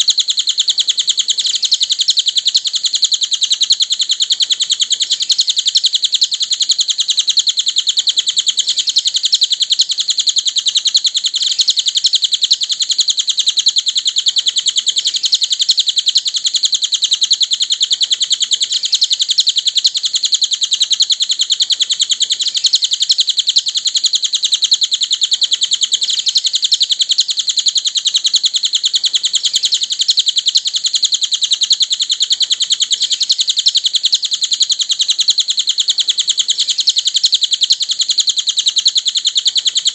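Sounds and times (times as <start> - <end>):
songbird high chirps: 0.0 - 39.9.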